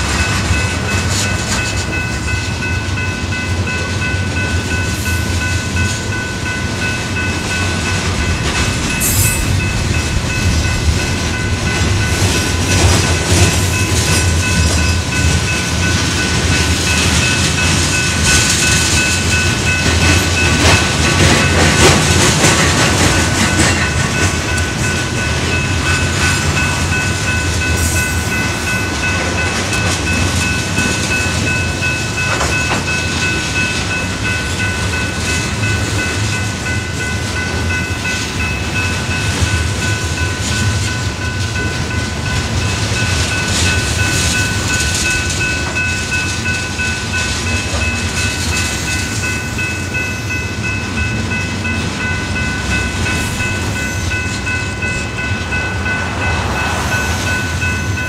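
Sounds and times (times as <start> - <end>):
train wheels rumbling on rail: 0.0 - 58.0
high-pitched ring: 0.2 - 21.6, 23.1 - 58.0.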